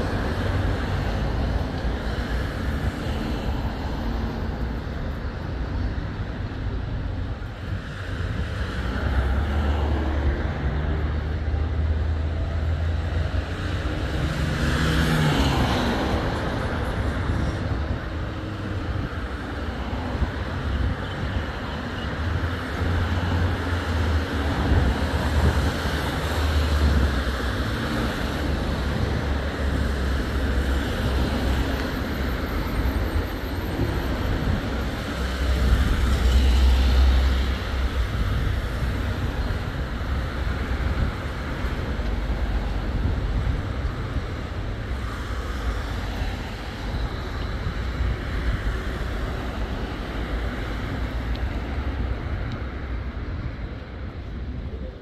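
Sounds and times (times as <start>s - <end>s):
road vehicle rumble: 0.0s - 55.0s.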